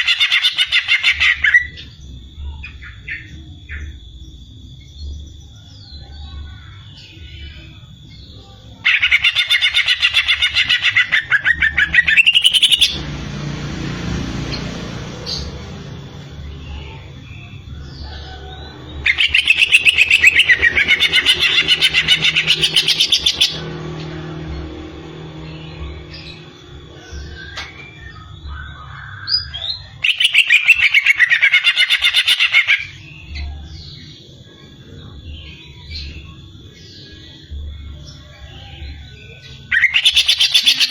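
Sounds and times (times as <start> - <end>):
bird chattering song: 0.0 - 13.0, 16.4 - 40.9.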